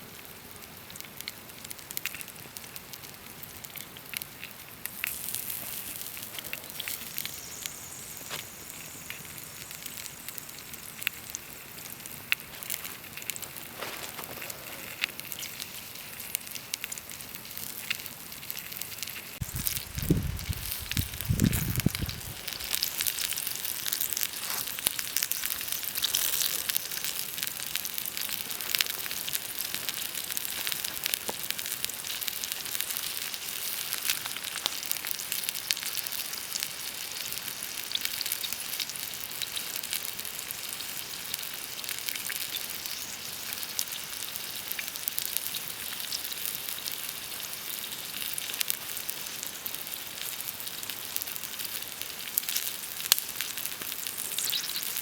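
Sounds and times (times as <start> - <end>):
food sizzling in a pan: 0.2 - 55.0.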